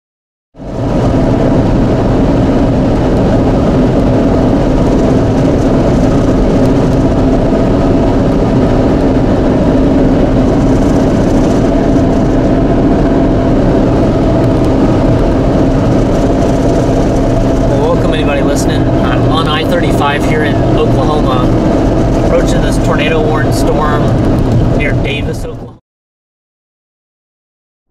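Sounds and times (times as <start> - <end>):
car road and engine noise: 0.6 - 25.8.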